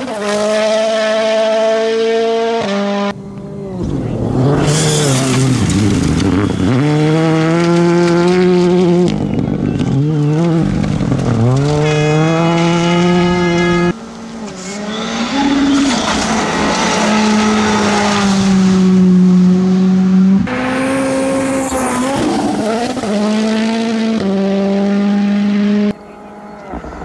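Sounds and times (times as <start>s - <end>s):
rally car engines revving: 0.0s - 27.0s.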